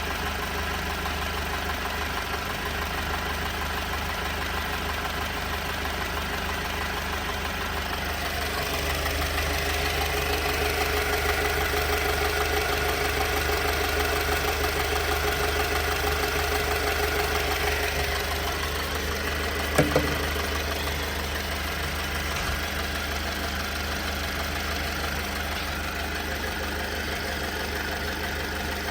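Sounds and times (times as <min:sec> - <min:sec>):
car engine idling roughly: 0:00.0 - 0:28.9.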